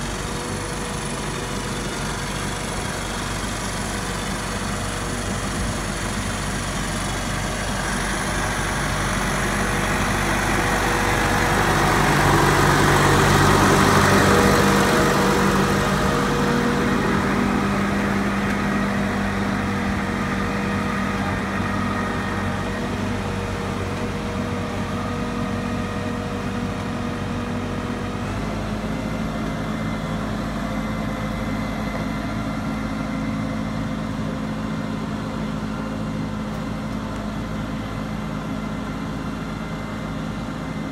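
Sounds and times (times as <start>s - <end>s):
tractor diesel engine passing: 0.0s - 40.9s.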